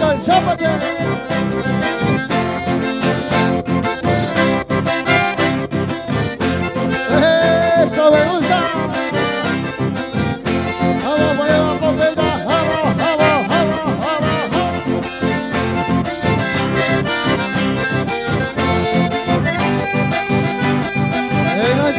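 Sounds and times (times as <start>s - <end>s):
button accordions: 0.0s - 21.9s
strummed guitar: 0.0s - 21.9s.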